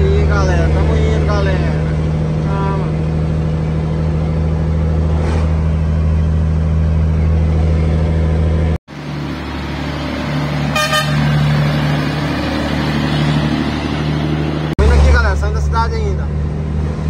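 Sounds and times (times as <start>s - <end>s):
truck diesel engine from inside cab: 0.0s - 17.0s
truck driving past: 0.0s - 17.0s.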